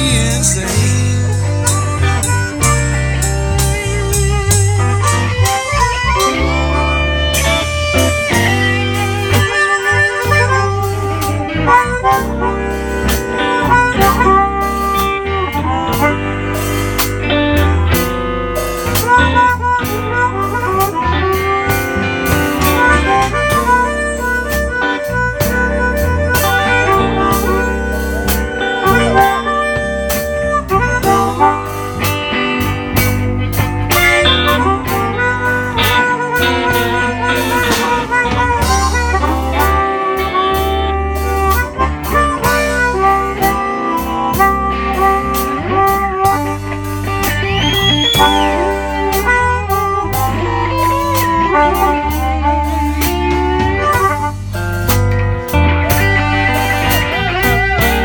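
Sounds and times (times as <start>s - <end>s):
bending lead guitar lines: 0.0s - 58.0s
live blues band playing: 0.0s - 58.0s.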